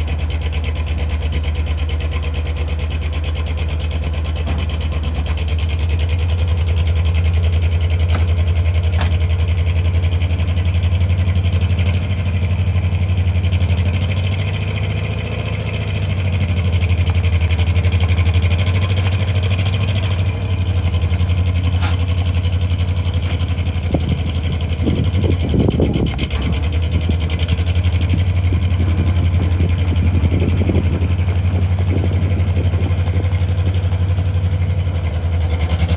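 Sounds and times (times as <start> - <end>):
truck engine idling: 0.0 - 35.9.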